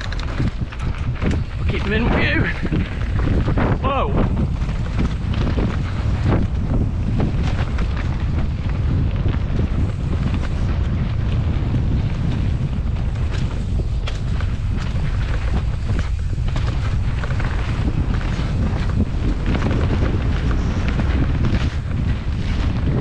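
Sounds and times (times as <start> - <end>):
bike knocking and rattling: 0.0 - 23.0
wind buffeting microphone: 0.0 - 23.0.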